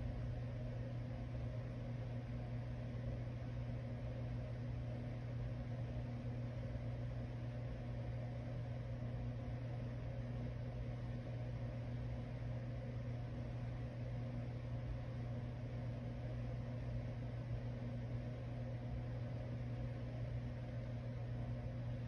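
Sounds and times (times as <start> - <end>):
electric desk fan humming: 0.0 - 22.0.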